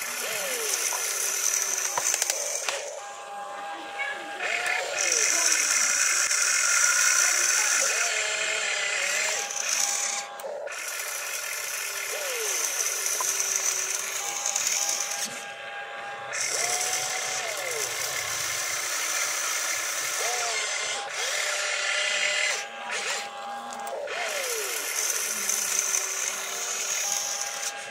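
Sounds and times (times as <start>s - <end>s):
small electric motors whining: 0.0s - 27.9s.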